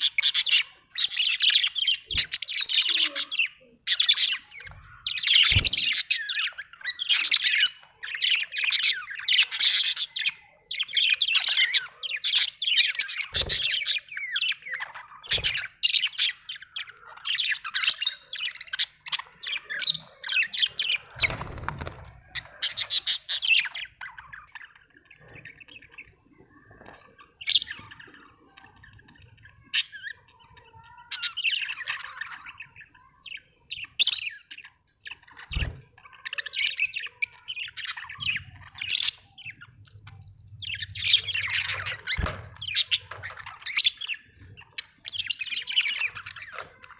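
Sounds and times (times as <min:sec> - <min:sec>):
budgerigars chirping: 0:00.0 - 0:39.8, 0:40.6 - 0:46.9.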